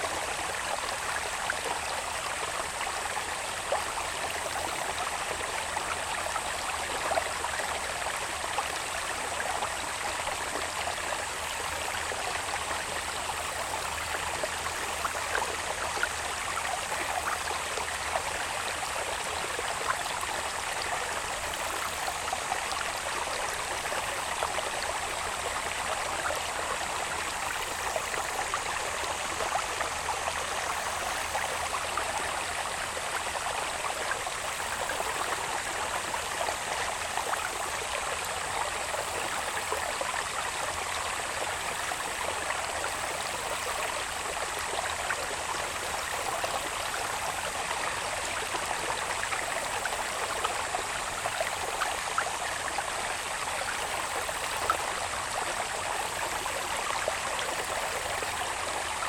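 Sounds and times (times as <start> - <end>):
water babbling along channel: 0.0 - 59.0.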